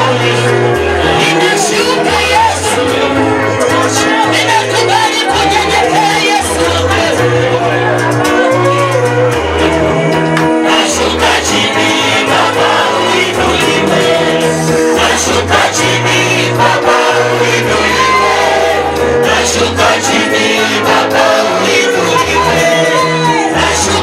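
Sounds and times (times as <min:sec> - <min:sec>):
band with steady beat and bass: 0:00.0 - 0:24.0
group of singers: 0:00.0 - 0:24.0.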